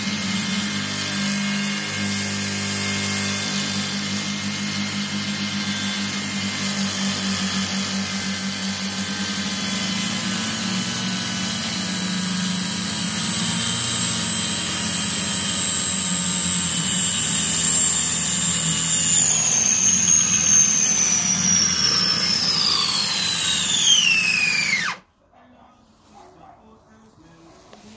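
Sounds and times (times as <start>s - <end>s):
rc car motor whining: 0.0s - 25.1s.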